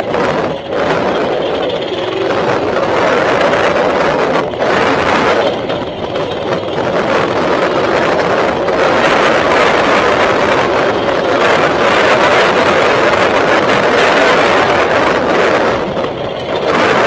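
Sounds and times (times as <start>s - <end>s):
small motorbike engine running: 0.0s - 17.0s
wind buffeting microphone: 0.0s - 17.0s.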